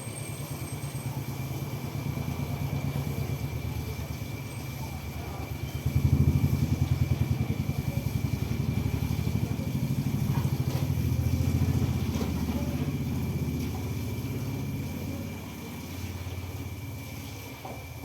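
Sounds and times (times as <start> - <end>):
engine running with fast pulse: 0.0 - 17.8.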